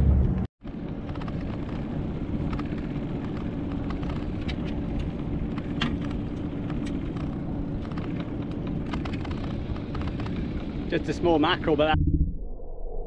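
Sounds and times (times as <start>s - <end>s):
low rumble with faint hum: 0.0s - 13.0s.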